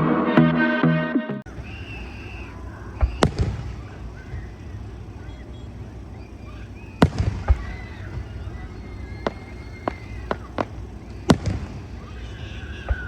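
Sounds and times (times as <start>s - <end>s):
fireworks bangs: 1.5s - 13.0s
low outdoor rumble: 1.5s - 13.0s.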